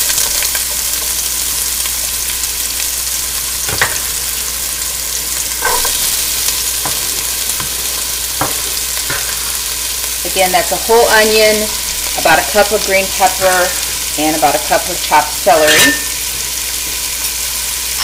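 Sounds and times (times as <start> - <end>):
onion sizzling in oil: 0.0 - 18.0.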